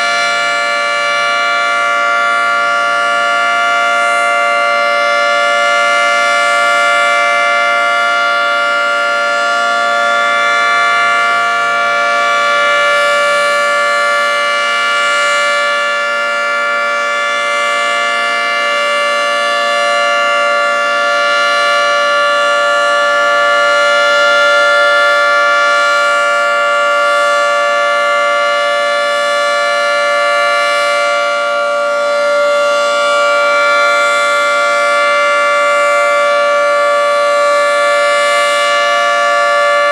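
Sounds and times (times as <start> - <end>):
tornado siren steady alert tone: 0.0 - 39.9.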